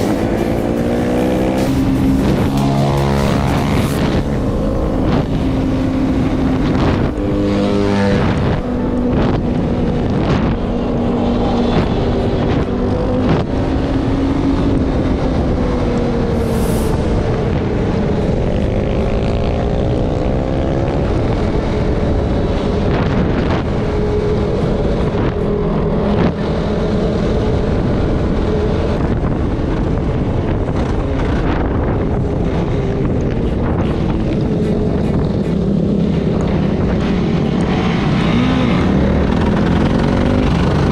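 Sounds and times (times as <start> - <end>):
off-road vehicle engine revving: 0.0 - 28.4, 32.4 - 40.9
wind noise on microphone: 0.0 - 40.9.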